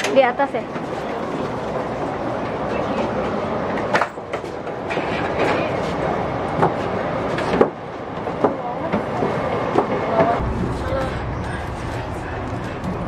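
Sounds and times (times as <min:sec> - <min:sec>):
crowded train carriage din: 0:00.0 - 0:13.0.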